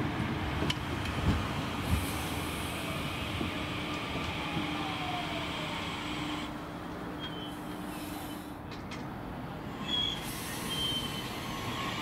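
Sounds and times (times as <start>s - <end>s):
electric train running past: 0.0s - 8.6s, 9.4s - 12.0s.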